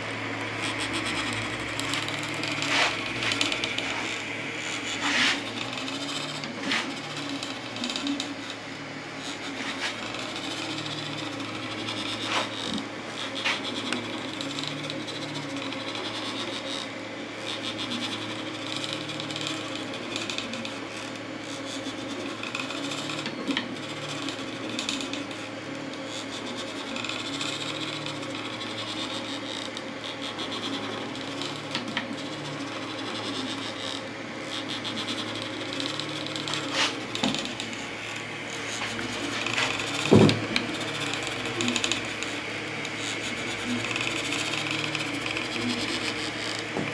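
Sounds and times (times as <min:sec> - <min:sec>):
fans humming: 0:00.0 - 0:46.9
stepper motors whirring: 0:00.0 - 0:46.9.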